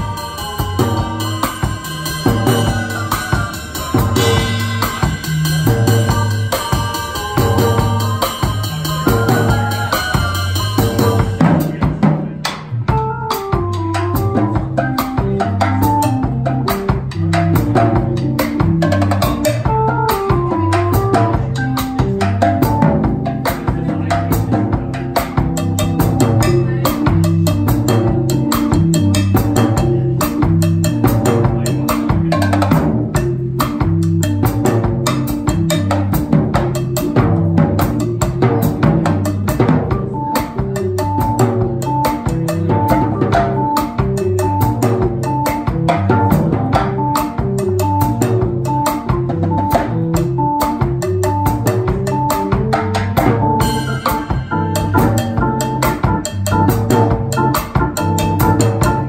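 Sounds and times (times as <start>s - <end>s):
drum kit played with sticks: 0.0s - 59.0s
low bass notes: 0.0s - 59.0s.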